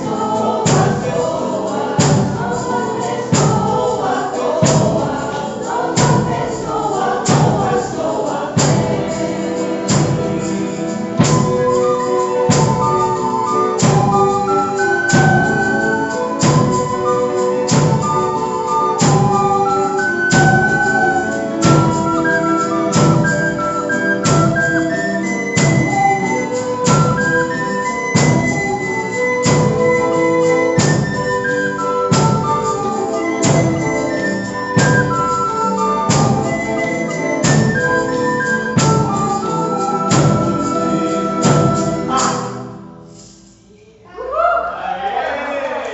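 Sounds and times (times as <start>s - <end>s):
group singing: 0.0s - 42.8s
melody of held notes: 0.0s - 43.2s
percussion beat: 0.0s - 43.7s.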